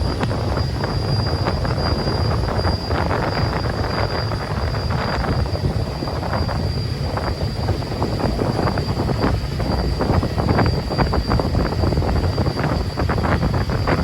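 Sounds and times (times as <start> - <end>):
ferryboat low rumble: 0.0 - 14.0
wind gusting over microphone: 0.0 - 14.0.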